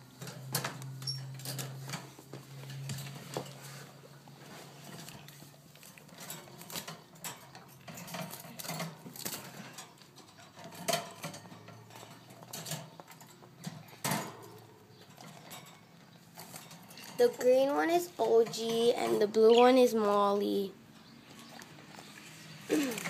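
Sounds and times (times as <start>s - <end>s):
clicks and rustles in bird cage: 0.2s - 20.2s.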